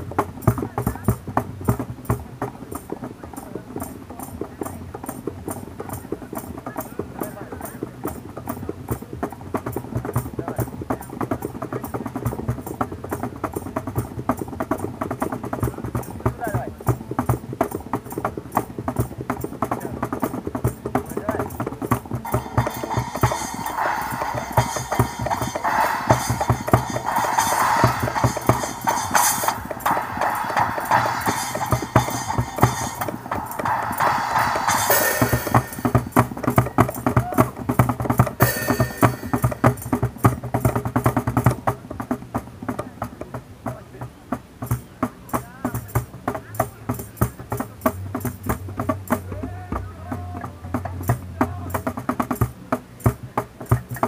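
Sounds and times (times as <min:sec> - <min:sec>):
hand drums playing fast rhythm: 0:00.0 - 0:54.0.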